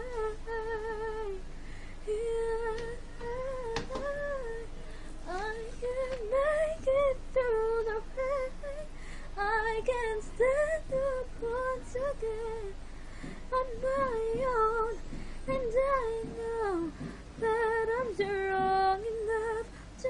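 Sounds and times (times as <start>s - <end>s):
woman singing pop ballad: 0.0s - 1.4s, 2.0s - 20.0s.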